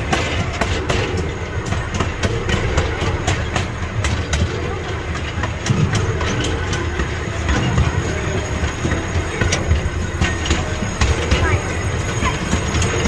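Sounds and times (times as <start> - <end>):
train cars rumbling: 0.0 - 13.0
wheels clicking over rail joints: 0.0 - 13.0.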